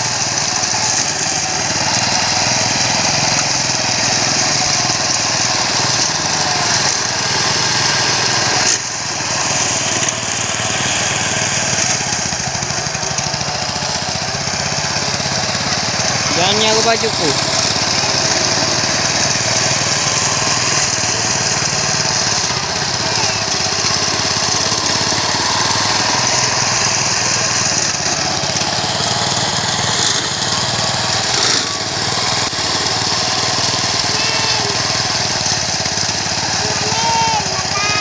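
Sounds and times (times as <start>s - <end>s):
grass cutter engine running: 0.0s - 38.0s.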